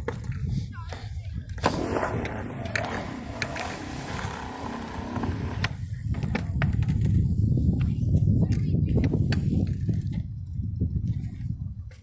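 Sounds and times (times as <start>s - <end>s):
skateboard wheels rolling on pavement: 0.0s - 10.1s
wind buffeting microphone: 0.0s - 12.0s.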